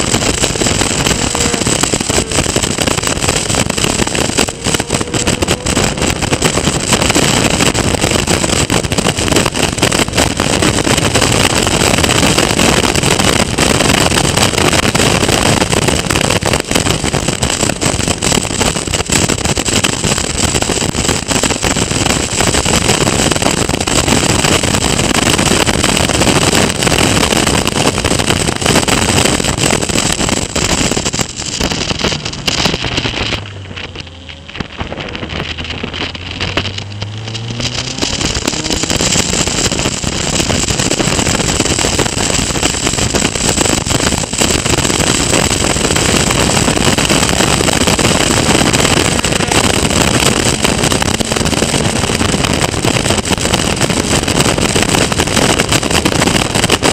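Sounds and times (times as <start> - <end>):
race car engine running hard: 0.0 - 56.5
wind rush: 0.0 - 56.9.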